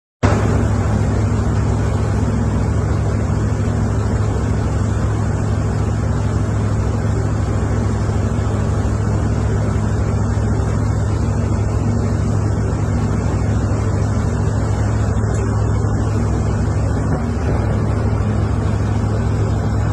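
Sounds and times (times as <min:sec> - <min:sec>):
loud engine drone: 0:00.2 - 0:19.9.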